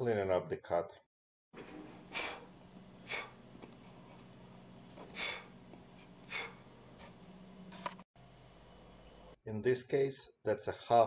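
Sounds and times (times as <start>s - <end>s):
faint steady hum: 1.6s - 11.0s.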